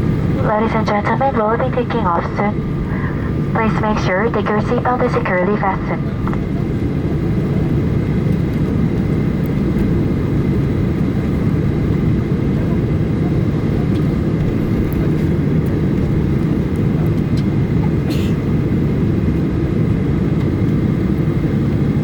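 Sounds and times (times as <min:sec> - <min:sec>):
jet engines rumbling in cabin: 0:00.0 - 0:22.0.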